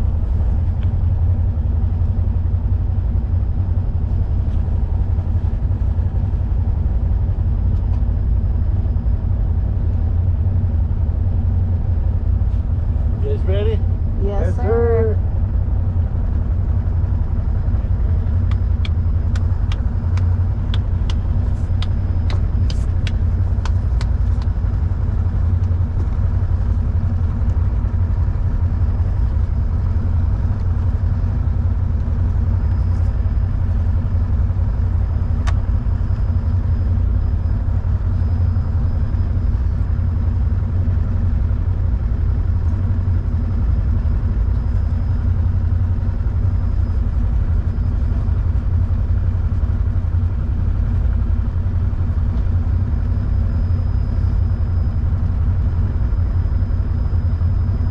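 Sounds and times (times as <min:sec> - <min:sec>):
engine idling: 0:00.0 - 0:57.9.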